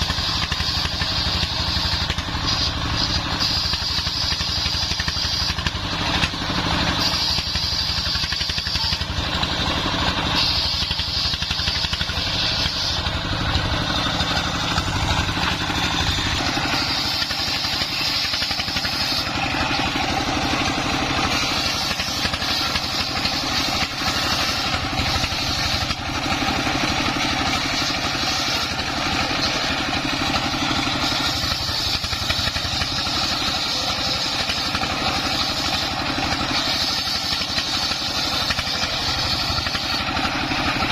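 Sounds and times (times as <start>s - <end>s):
diesel engine running: 0.0s - 40.9s
saw blade cutting wood: 0.0s - 40.9s.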